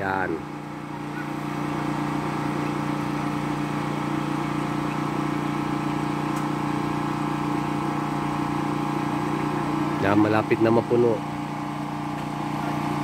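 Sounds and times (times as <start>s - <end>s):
water pump motor humming: 0.0s - 13.0s.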